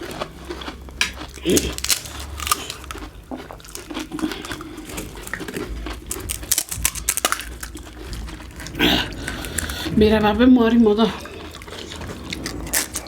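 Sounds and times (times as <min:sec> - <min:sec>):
crisp shells crunching: 0:00.0 - 0:10.0, 0:10.9 - 0:13.0.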